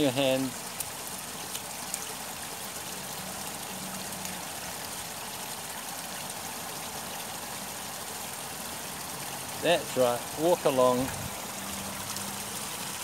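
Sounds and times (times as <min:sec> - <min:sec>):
rainwater rushing along path: 0:00.0 - 0:13.0.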